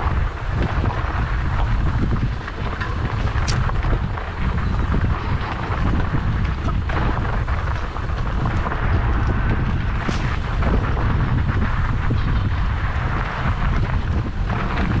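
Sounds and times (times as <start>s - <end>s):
bike tyres rattling over stones: 0.0s - 15.0s
wind buffeting microphone: 0.0s - 15.0s.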